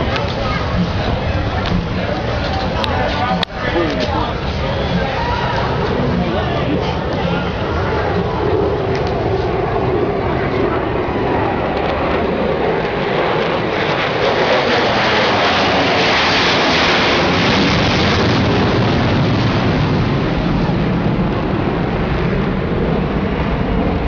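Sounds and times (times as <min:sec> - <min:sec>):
jet aircraft flyover: 0:00.0 - 0:24.0.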